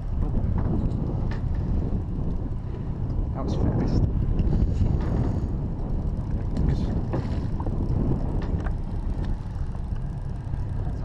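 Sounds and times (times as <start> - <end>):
boat engine drone: 0.0 - 11.0
wind buffeting microphone: 0.0 - 11.0.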